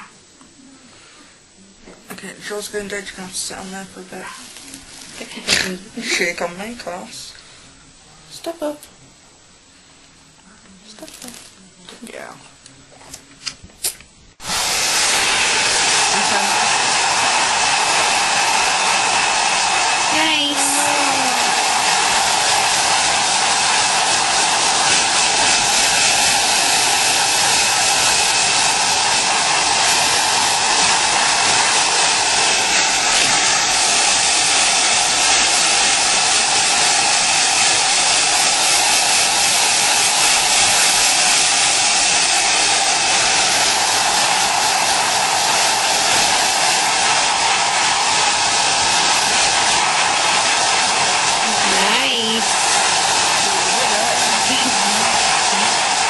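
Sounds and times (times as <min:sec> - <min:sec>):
hair dryer running: 0:02.2 - 0:07.4, 0:11.0 - 0:11.5, 0:14.4 - 0:56.0.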